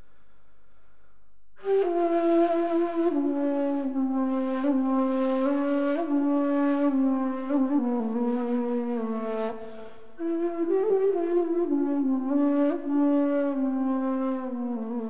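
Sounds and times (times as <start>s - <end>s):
breathy reed flute melody: 1.6s - 15.0s.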